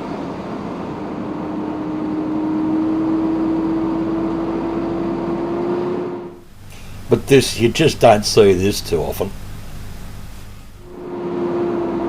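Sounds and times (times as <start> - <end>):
road noise: 0.0 - 7.2, 9.3 - 12.0
truck engine drone: 0.0 - 7.3, 9.3 - 12.0.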